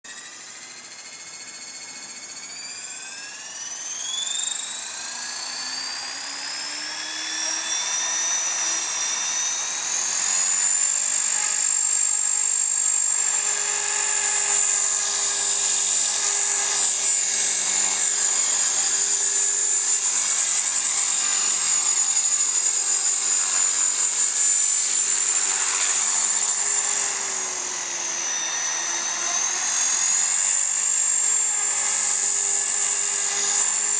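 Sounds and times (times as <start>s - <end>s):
model helicopter whine: 0.0s - 33.9s.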